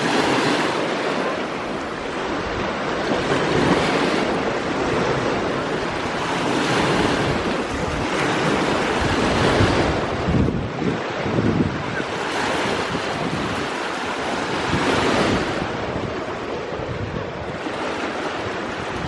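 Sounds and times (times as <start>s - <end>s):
sea waves washing onto shore: 0.0s - 19.0s.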